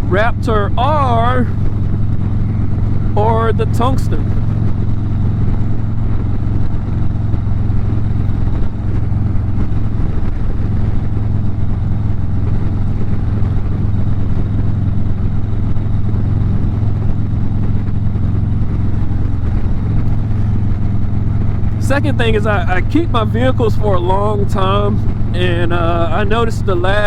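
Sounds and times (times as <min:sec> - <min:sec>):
motorcycle engine cruising: 0:00.0 - 0:27.0
road noise: 0:00.0 - 0:27.0
wind noise: 0:00.0 - 0:27.0.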